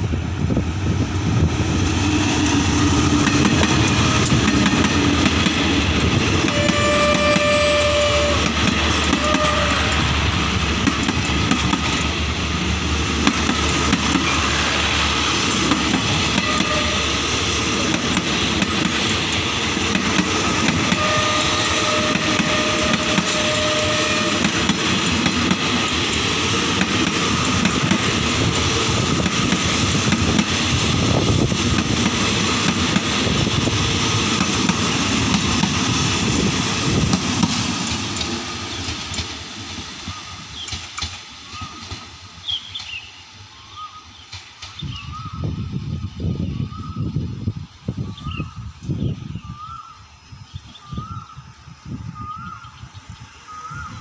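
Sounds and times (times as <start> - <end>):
train coaches rumbling past: 0.0 - 54.0.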